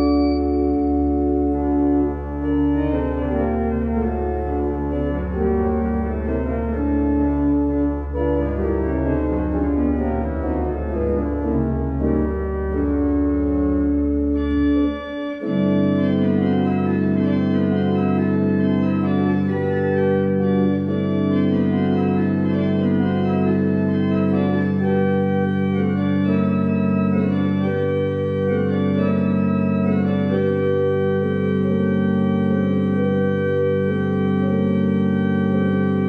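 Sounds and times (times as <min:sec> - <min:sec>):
deep organ pedal note: 0:00.0 - 0:36.0
pipe organ chords: 0:00.0 - 0:36.0.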